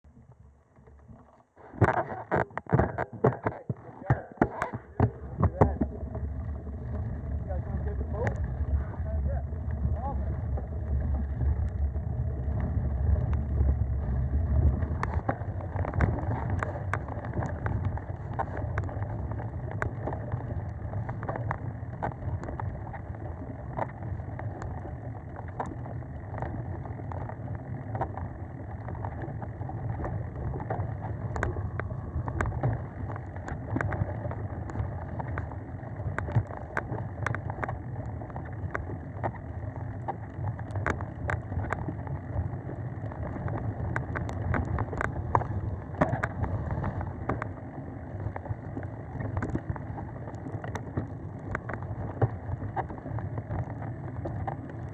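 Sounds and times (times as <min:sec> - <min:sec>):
wind rumble on microphone: 0:01.7 - 0:54.9
bike rattles and clicks: 0:01.9 - 0:54.9.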